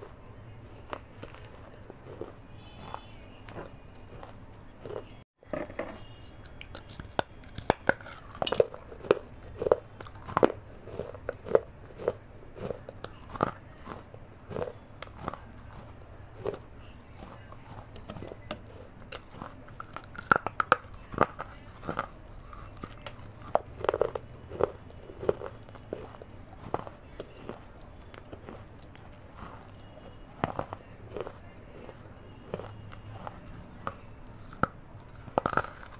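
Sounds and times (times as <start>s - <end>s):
clay pot pieces being chewed: 0.0s - 5.2s, 5.9s - 35.9s.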